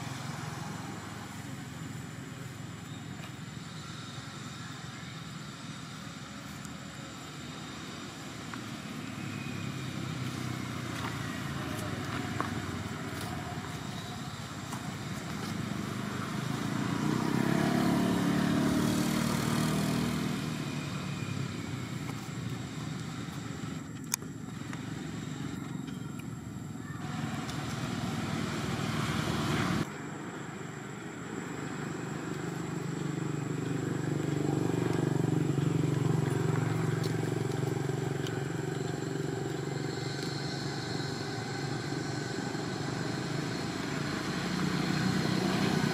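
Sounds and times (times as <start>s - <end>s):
passing motor vehicles: 0.0s - 45.9s.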